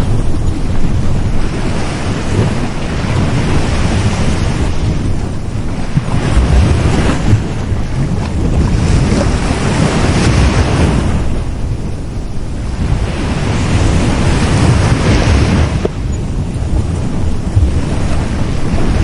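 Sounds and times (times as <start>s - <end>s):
sea waves breaking on a beach: 0.0s - 19.0s.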